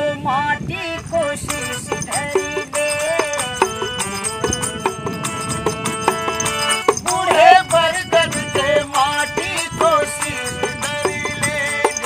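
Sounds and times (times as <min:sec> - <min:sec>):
keyed string zither melody: 0:01.2 - 0:12.0.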